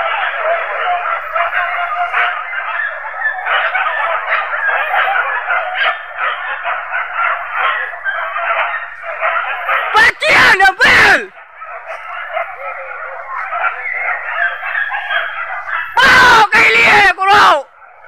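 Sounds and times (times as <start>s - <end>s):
dogs yelping and baying: 0.0s - 18.0s.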